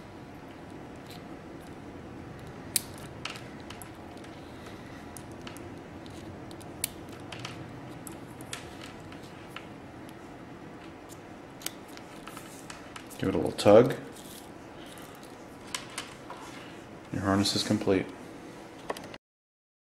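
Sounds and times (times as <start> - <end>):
faint hum: 0.0 - 19.2.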